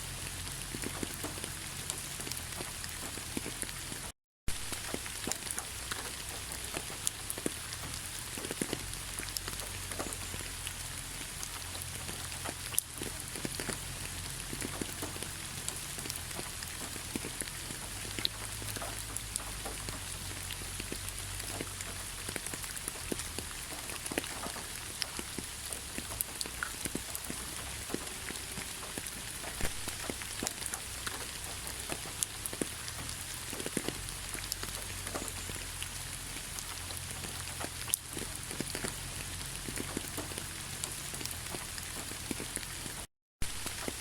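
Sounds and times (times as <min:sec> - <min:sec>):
heavy rain on hard surface: 0:00.0 - 0:44.0.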